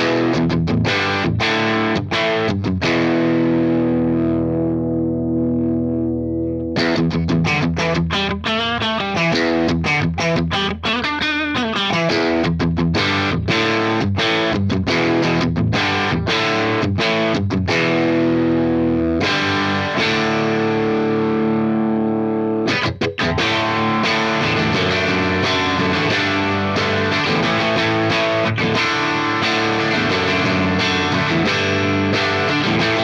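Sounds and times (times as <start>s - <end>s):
overdriven electric guitar: 0.0s - 33.0s.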